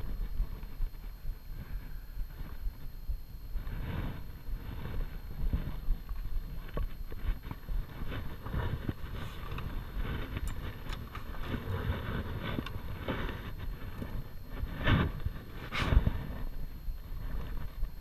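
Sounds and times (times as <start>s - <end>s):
wind buffeting microphone: 0.0s - 18.0s
rustling against clothing: 3.5s - 18.0s.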